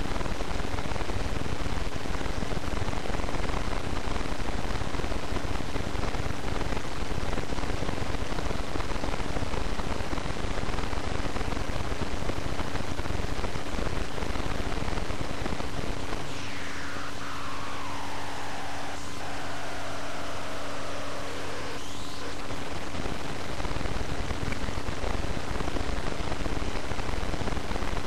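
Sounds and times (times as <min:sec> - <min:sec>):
faint steady hum: 0:00.0 - 0:28.0
faint whine falling in pitch: 0:00.0 - 0:28.0
steady hiss and rumble: 0:00.0 - 0:28.0.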